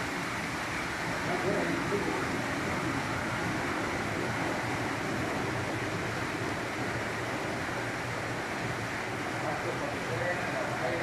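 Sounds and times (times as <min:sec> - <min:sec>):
water rushing through channel: 0:00.0 - 0:11.0.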